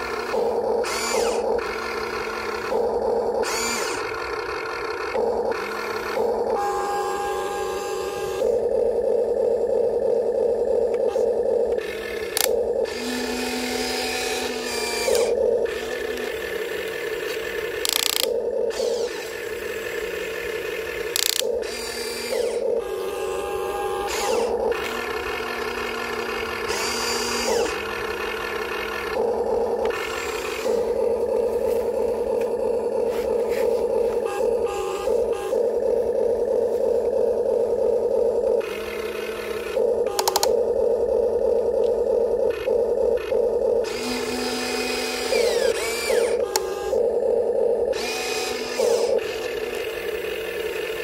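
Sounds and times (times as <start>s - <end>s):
electric motors and gears whining: 0.0s - 51.0s.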